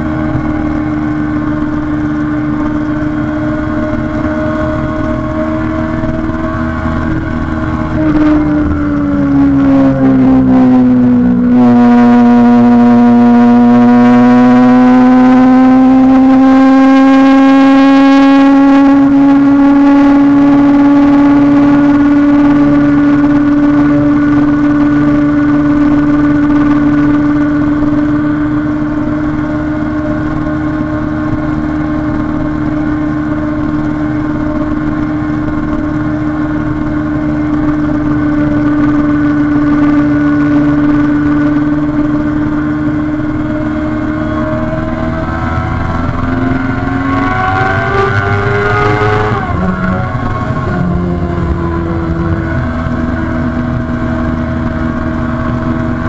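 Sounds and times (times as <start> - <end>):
motorcycle engine at high revs: 0.0 - 56.0.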